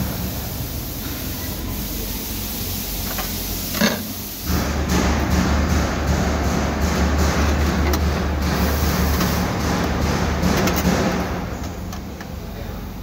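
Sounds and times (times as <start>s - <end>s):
air conditioning electric hum: 0.0s - 13.0s.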